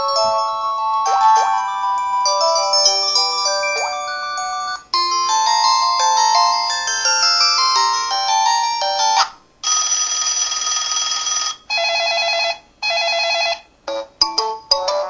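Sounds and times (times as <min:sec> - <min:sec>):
electronic ringtone melody: 0:00.0 - 0:15.0.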